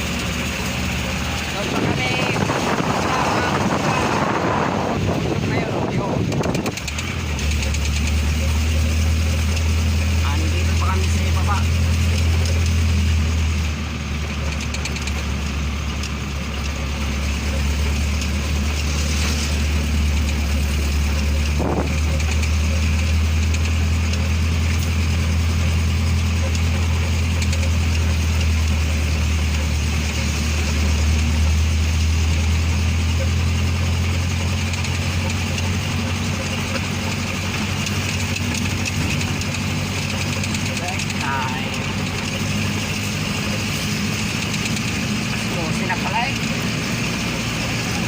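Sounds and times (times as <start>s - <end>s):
truck engine droning: 0.0s - 48.0s.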